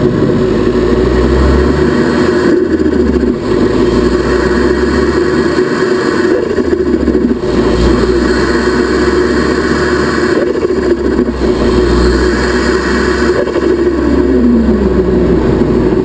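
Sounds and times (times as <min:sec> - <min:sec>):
turbocharged car engine running: 0:00.0 - 0:16.0.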